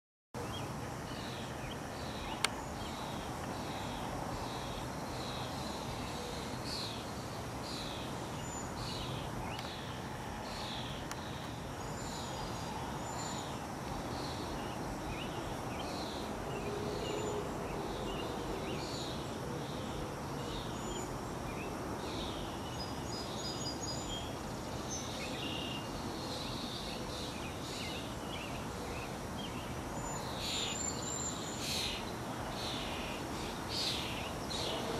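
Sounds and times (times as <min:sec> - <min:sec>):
outdoor background noise: 0:00.4 - 0:34.9.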